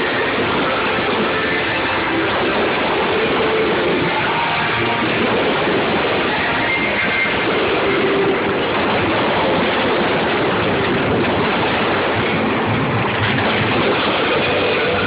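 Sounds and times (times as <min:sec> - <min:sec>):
fireworks barrage: 0:00.0 - 0:15.0.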